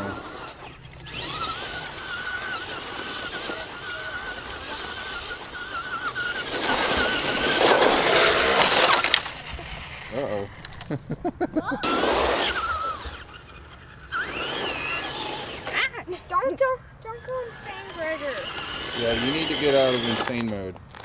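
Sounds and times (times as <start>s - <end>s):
rc car motor whining: 0.0s - 21.0s.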